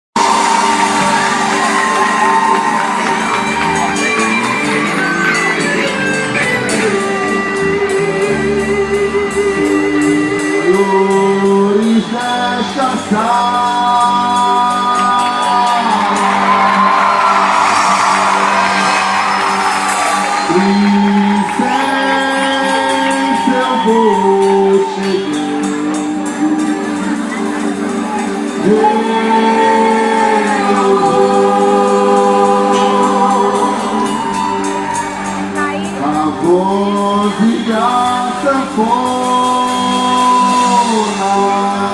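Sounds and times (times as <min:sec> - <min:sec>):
guitar: 0:00.2 - 0:41.9
percussion beat: 0:00.2 - 0:41.9
person singing with vibrato: 0:04.2 - 0:19.4, 0:20.3 - 0:41.9.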